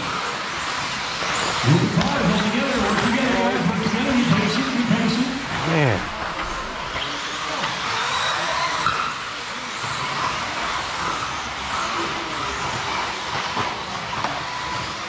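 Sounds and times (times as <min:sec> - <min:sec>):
rc car motor whines: 0:00.0 - 0:15.0.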